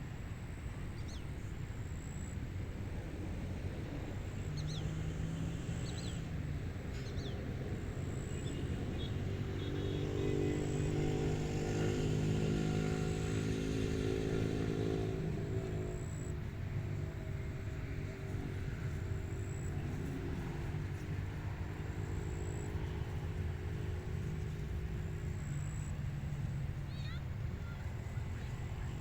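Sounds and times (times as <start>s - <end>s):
vehicle engine droning: 0.0s - 29.0s.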